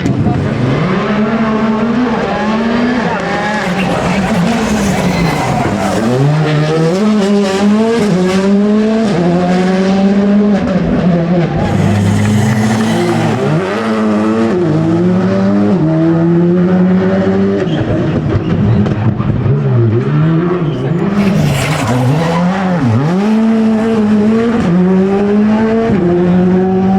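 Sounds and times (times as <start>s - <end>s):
car engine revving hard: 0.0s - 17.7s, 18.4s - 26.9s.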